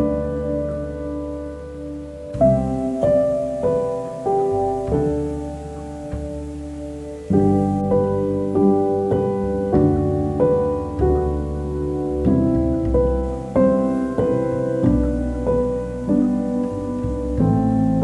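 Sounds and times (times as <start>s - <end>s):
slow solo piano melody: 0.0s - 18.0s.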